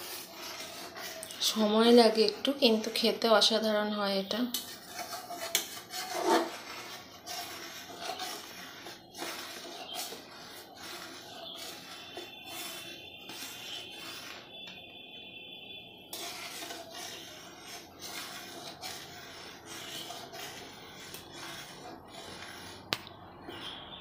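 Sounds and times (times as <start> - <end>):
spatula scraping steel pan: 0.0 - 14.8, 16.0 - 24.0.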